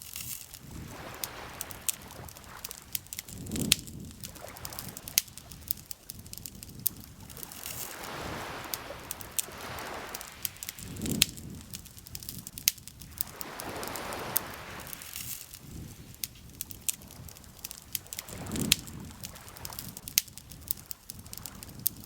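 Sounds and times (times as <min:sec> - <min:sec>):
lake water lapping: 0:00.0 - 0:21.8
campfire crackling and popping: 0:00.0 - 0:22.0.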